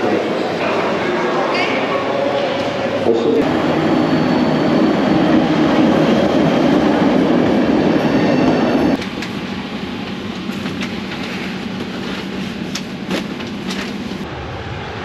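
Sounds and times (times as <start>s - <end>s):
passenger train running on rails: 0.0s - 15.0s.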